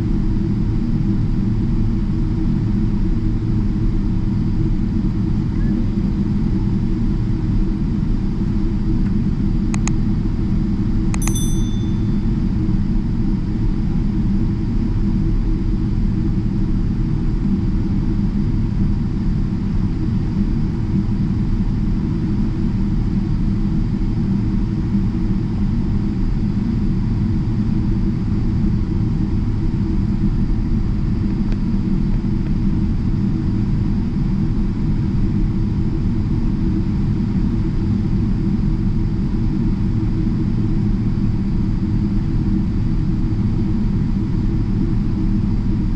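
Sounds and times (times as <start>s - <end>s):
aircraft cabin engine rumble: 0.0s - 11.0s, 11.9s - 45.9s.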